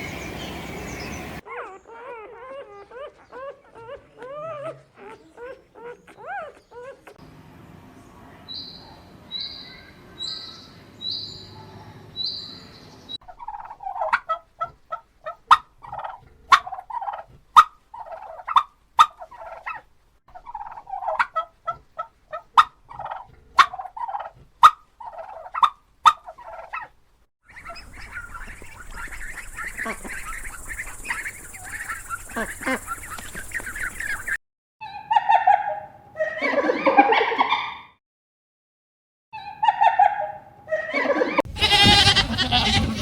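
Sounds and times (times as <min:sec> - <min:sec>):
chicken chirping and calling: 0:00.0 - 0:07.2, 0:08.5 - 0:37.9, 0:39.4 - 0:43.0.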